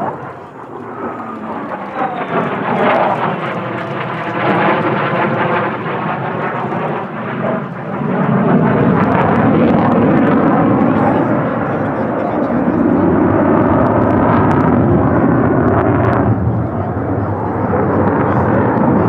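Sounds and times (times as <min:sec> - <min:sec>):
jet noise in flight: 0:00.0 - 0:19.0.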